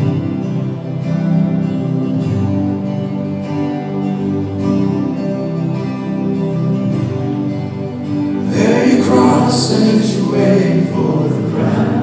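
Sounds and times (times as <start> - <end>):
guitar strumming chords: 0.0 - 12.0
worship band instrumental music: 0.0 - 12.0.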